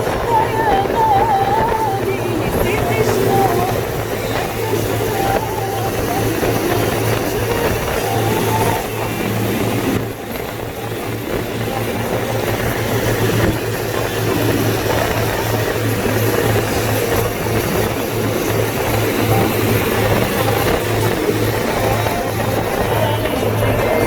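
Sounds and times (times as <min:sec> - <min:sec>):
car engine and road noise: 0:00.0 - 0:24.0
rain hiss: 0:00.0 - 0:24.0.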